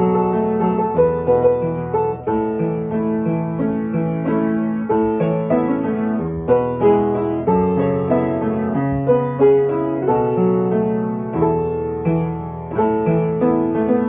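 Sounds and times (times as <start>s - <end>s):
solo grand piano: 0.0s - 14.0s.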